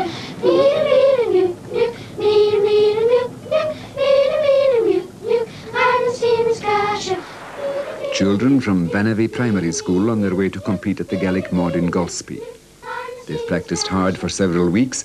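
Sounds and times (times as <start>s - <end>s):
children singing in unison: 0.0s - 14.4s.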